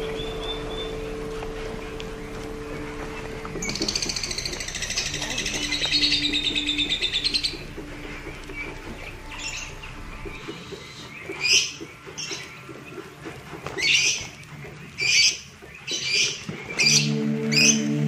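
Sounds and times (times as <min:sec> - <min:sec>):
birds chirping shrilly: 0:00.0 - 0:18.0.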